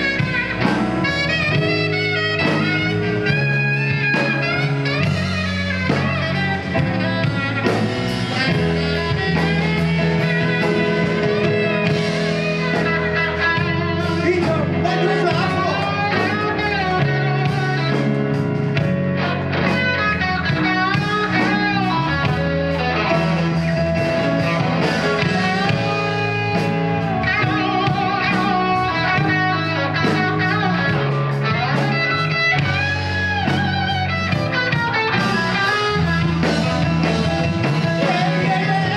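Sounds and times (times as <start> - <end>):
bass: 0.0 - 38.9
drums: 0.0 - 38.9
guitar with bending notes: 0.0 - 38.9.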